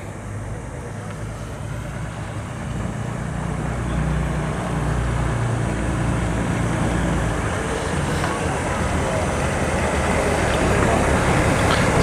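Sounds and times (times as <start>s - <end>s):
engine running at low speed: 0.0s - 12.0s.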